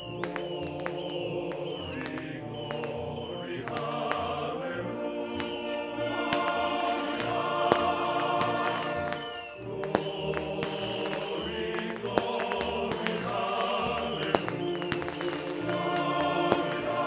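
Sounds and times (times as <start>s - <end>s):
sharp cracks: 0.0s - 4.4s, 5.3s - 17.0s
choir singing: 0.0s - 17.0s.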